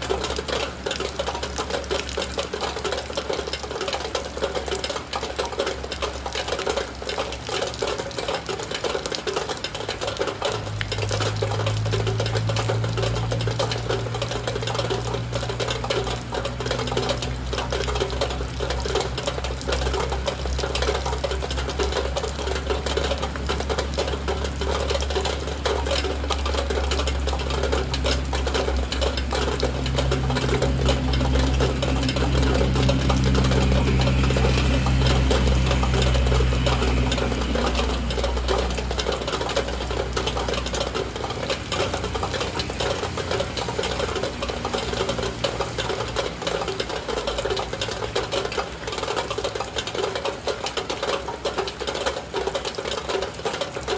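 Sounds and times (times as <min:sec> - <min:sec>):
rain pattering on a window: 0:00.0 - 0:53.9.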